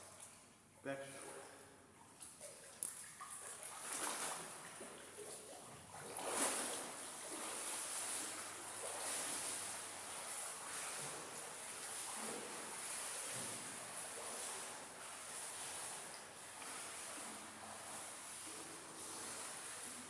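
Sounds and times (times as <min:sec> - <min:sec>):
swimmer splashing in pool: 0:02.5 - 0:20.0.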